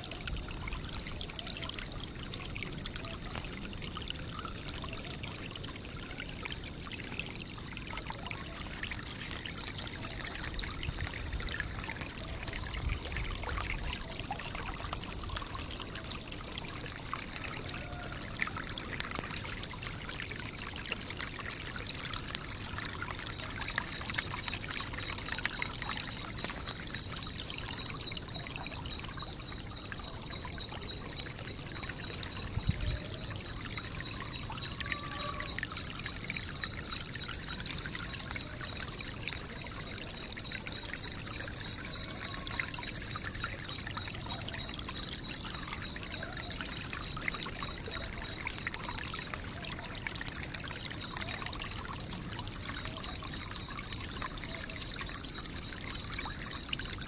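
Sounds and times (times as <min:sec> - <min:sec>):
trickling water-like noise: 0:00.0 - 0:57.0.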